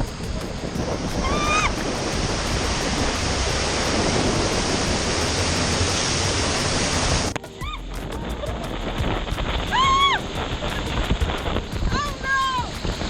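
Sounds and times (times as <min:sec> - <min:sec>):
water rushing: 0:00.0 - 0:13.0
wind buffeting microphone: 0:00.0 - 0:13.0.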